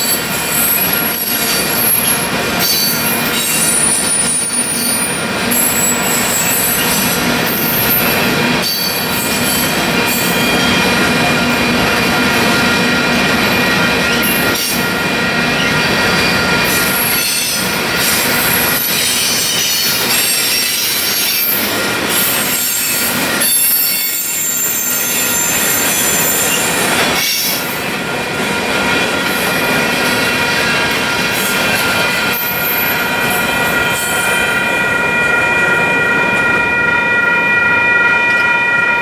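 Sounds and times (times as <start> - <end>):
train wheels squealing: 0.0 - 39.0
wheels rumbling on rail: 0.0 - 39.0.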